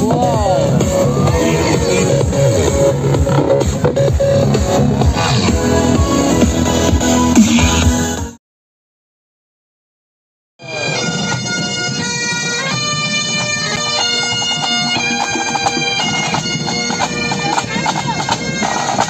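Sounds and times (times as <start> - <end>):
bagpipes playing melody: 0.0 - 8.2, 10.6 - 19.0
drums beating: 0.0 - 8.4, 10.6 - 19.0.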